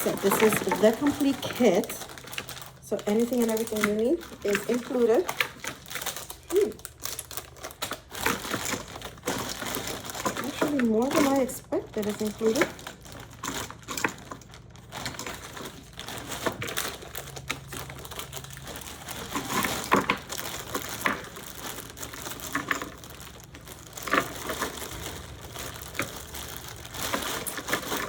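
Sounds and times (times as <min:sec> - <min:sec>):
plastic packaging crinkling: 0:00.0 - 0:28.0
small hard items clicking: 0:00.0 - 0:28.0.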